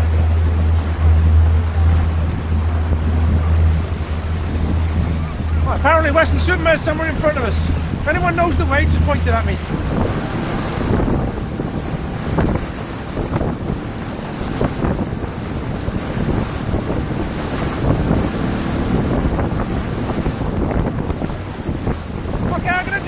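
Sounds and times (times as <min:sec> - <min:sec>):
rush of spray and water: 0:00.0 - 0:23.0
wind buffeting microphone: 0:00.0 - 0:23.0.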